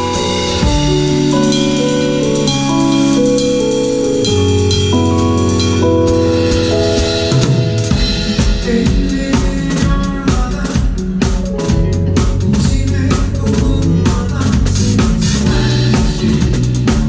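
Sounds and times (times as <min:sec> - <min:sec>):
drum kit kick snare and cymbals: 0:00.0 - 0:17.0
keyboard chords: 0:00.0 - 0:17.0
sustained bass line: 0:00.0 - 0:17.0.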